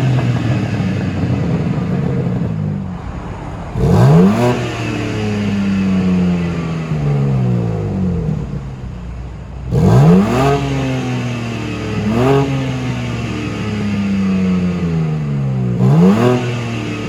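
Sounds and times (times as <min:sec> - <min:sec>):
car exhaust revving: 0:00.0 - 0:17.0.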